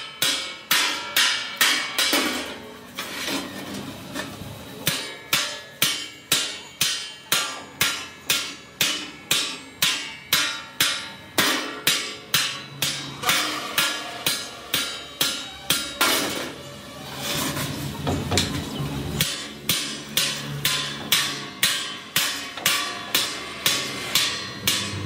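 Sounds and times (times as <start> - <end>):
hammer striking metal: 0.0 - 2.7, 4.8 - 16.7, 18.0 - 25.0.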